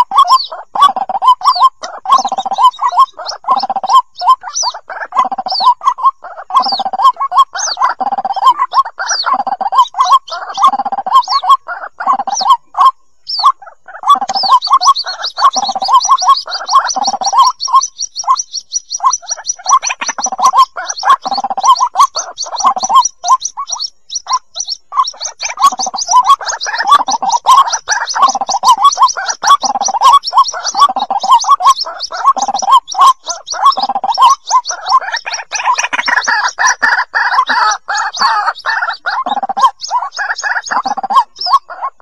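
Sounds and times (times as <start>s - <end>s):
chicks high peeping: 0.0s - 42.0s
lower choppy bird calls: 0.0s - 42.0s.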